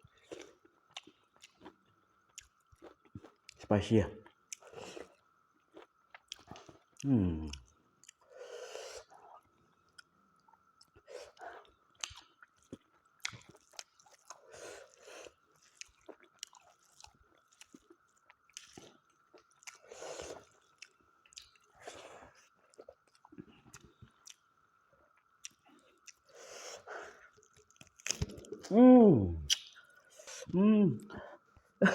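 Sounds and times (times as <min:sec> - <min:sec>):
chewing with lip smacks: 0:00.1 - 0:08.3, 0:08.9 - 0:28.7, 0:29.5 - 0:30.5.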